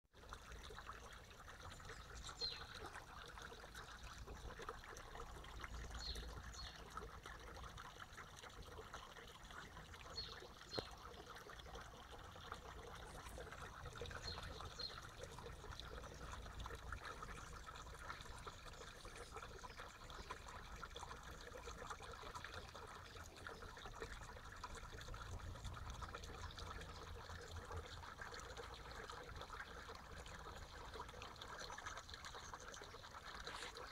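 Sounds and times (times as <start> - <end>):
stream trickling over stones: 0.1 - 33.9.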